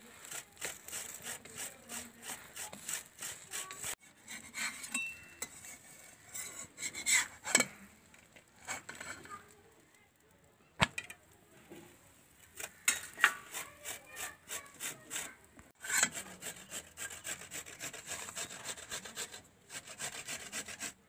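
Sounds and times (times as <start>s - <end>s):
cooking utensil scraping: 0.0s - 9.7s, 11.7s - 21.0s.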